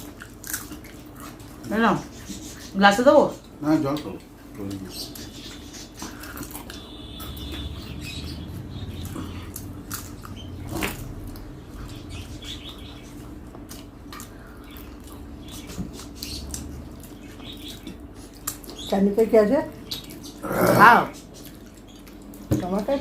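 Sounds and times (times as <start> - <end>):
eating and dishes clicking: 0.0 - 23.0
steady low hum: 0.0 - 23.0.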